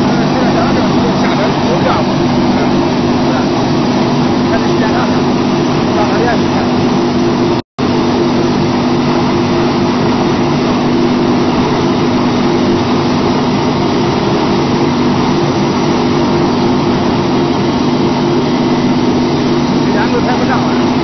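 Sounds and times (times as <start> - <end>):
machine droning: 0.0 - 21.0.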